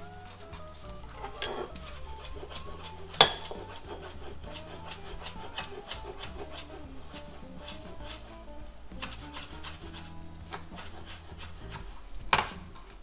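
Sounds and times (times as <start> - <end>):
rasping food preparation strokes: 0.0 - 13.0
soft background music: 0.0 - 13.0.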